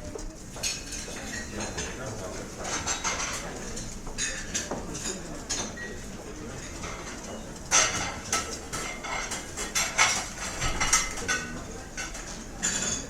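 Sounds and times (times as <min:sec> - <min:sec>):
cutlery and dishes clinking: 0:00.6 - 0:13.0.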